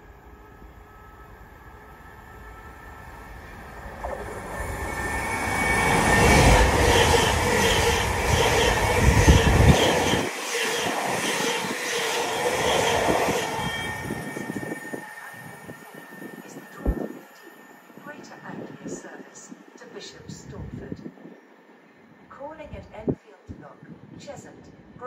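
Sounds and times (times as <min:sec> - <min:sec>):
electric train passing: 0:00.0 - 0:22.3.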